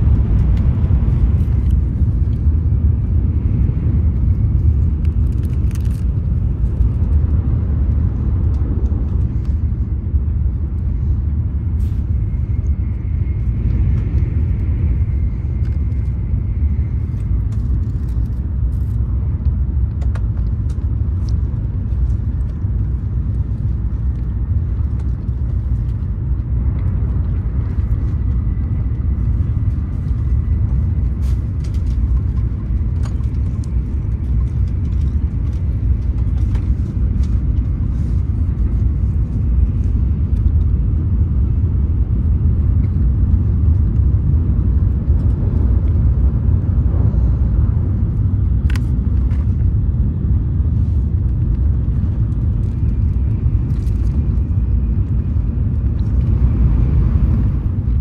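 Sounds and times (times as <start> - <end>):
train rumble inside cabin: 0.0 - 58.0.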